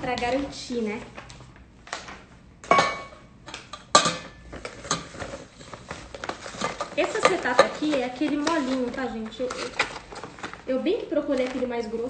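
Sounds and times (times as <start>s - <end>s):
plastic sheet rustling: 0.0s - 2.3s, 4.4s - 12.0s.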